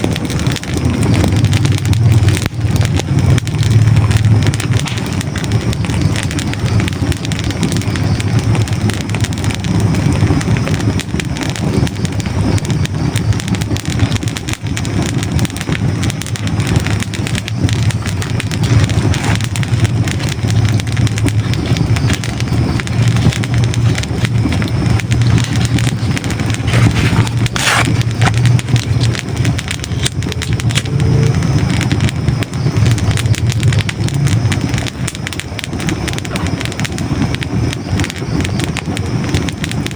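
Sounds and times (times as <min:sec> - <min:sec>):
fire crackling and popping: 0:00.0 - 0:39.9
fire rumbling: 0:00.0 - 0:39.9
sharp crack of burning log: 0:00.0 - 0:39.9.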